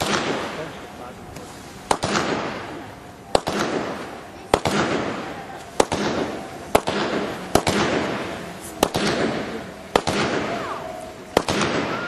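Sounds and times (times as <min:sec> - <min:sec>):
crackling sizzling hiss: 0:00.0 - 0:12.0
fireworks reports: 0:00.0 - 0:12.0.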